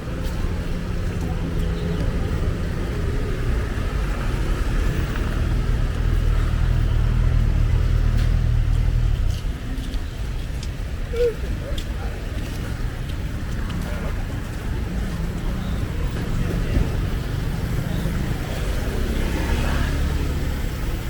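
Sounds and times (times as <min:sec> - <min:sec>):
street traffic: 0:00.0 - 0:21.0
vehicle engine rumble: 0:00.0 - 0:21.0.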